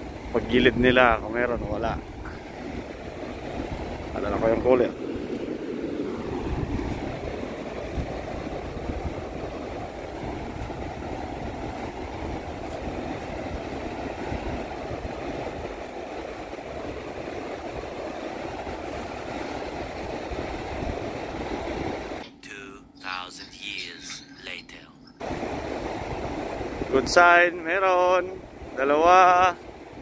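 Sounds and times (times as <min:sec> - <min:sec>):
surf breaking on beach: 0:00.0 - 0:22.2, 0:25.2 - 0:30.0
wind buffeting microphone: 0:00.0 - 0:22.2, 0:25.2 - 0:30.0.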